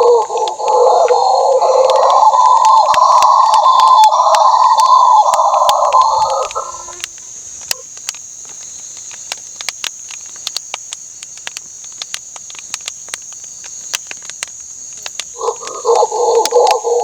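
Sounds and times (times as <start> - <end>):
insect chorus: 0.0 - 17.0
sharp clicks: 0.0 - 17.0.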